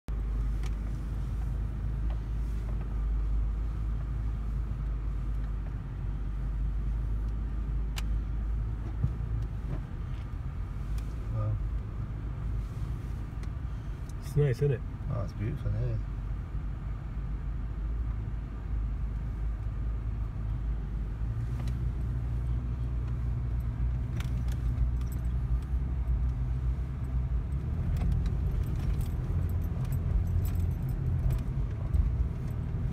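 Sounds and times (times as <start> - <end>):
car engine and tyre rumble: 0.1 - 32.9.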